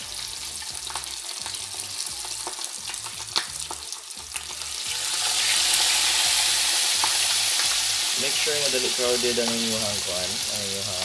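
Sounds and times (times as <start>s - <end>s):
deep-frying sizzle: 0.0s - 11.0s.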